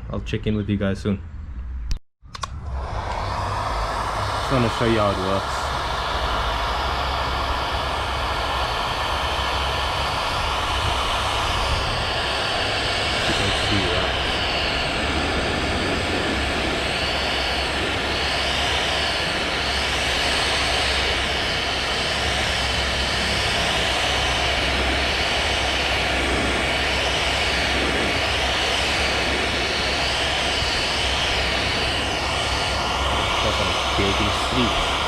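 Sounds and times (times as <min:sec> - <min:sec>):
heat gun blowing hot air: 0:02.6 - 0:35.0.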